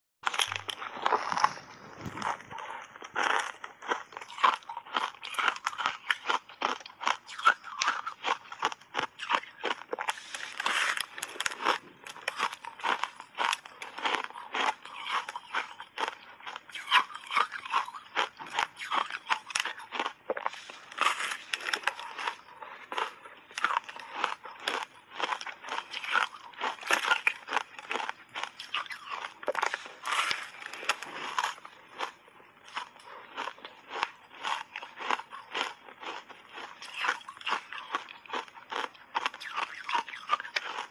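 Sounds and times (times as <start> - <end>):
crunchy ice chewing: 0.2 - 40.9.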